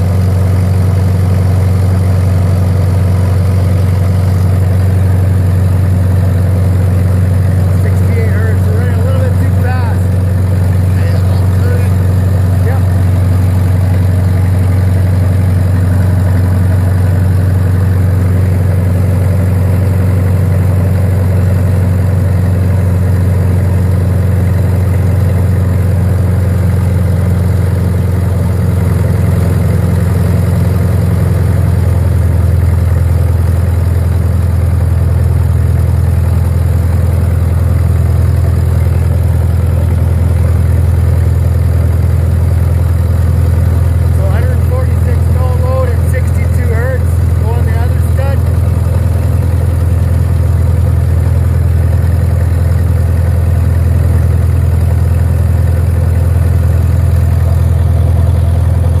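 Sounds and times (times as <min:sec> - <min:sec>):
diesel generator droning: 0:00.0 - 0:59.0.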